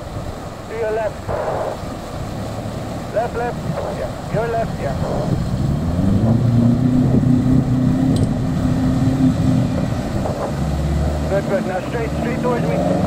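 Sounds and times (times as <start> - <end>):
water churning: 0.0 - 13.0.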